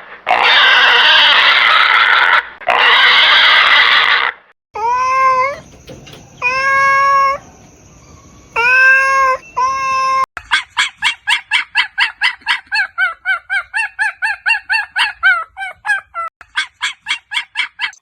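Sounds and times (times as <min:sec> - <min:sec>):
animal calls: 0:00.2 - 0:18.0.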